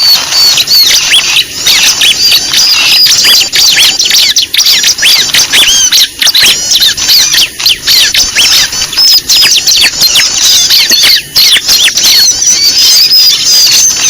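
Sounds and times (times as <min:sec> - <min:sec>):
flock of small birds chirping: 0:00.0 - 0:14.0.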